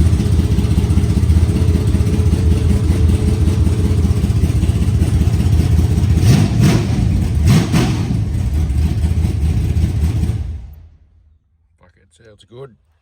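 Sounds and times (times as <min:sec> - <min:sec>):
car engine idling and revving: 0:00.0 - 0:11.3.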